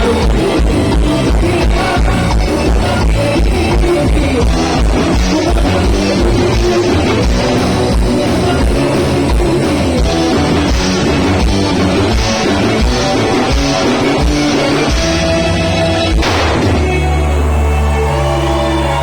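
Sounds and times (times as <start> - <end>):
band music with guitar and drums: 0.0 - 19.0.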